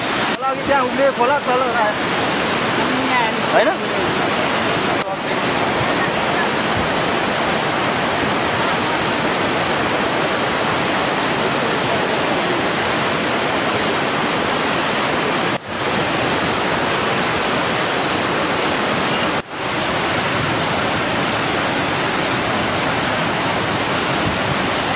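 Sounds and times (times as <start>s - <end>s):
floodwater rushing: 0.0s - 24.9s.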